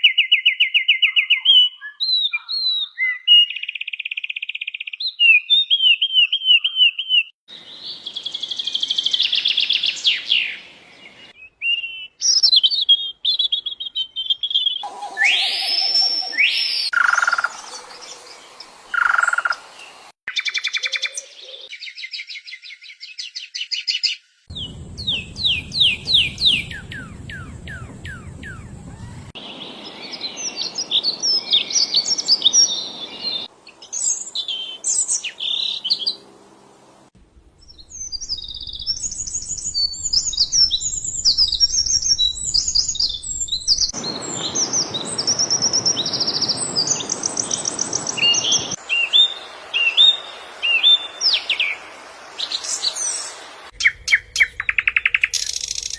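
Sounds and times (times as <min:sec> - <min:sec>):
songbirds singing and calling: 0:00.0 - 0:36.2, 0:37.6 - 0:55.9.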